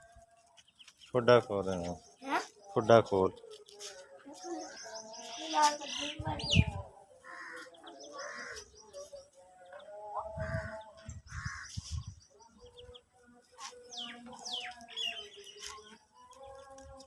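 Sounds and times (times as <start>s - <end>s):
birds chirping and calling: 0.4s - 17.0s.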